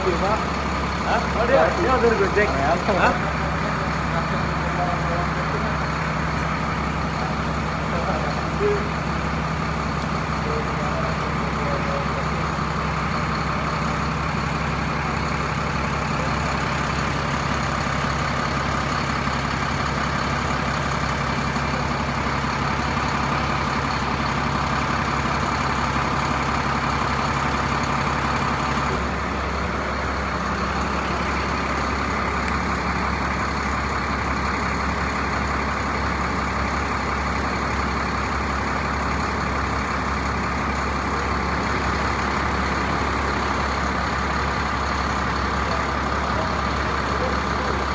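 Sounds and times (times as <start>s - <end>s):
bus engine idling: 0.0s - 47.9s.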